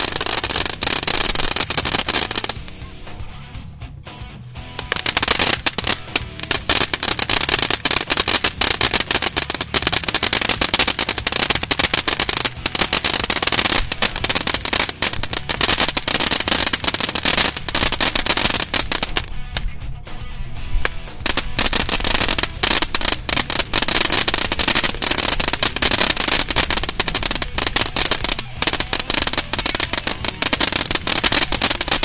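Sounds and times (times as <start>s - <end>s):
firework fountain crackling: 0.0s - 2.8s, 4.6s - 19.7s, 20.6s - 32.0s
firework hiss: 0.0s - 2.8s, 4.6s - 19.7s, 20.6s - 32.0s.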